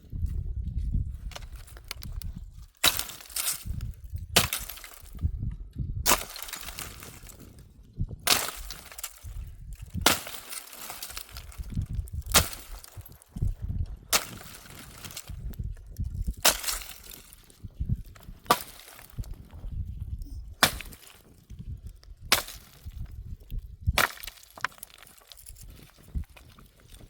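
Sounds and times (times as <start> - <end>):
dry firewood cracking: 1.1 - 27.0.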